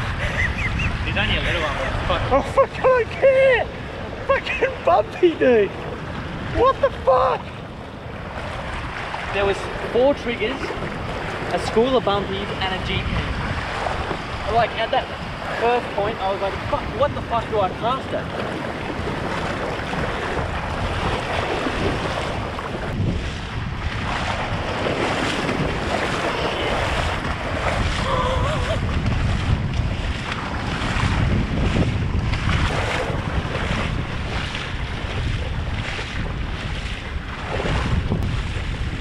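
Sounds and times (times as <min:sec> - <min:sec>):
water and surf washing: 0:00.0 - 0:39.0
wind buffeting microphone: 0:00.0 - 0:39.0.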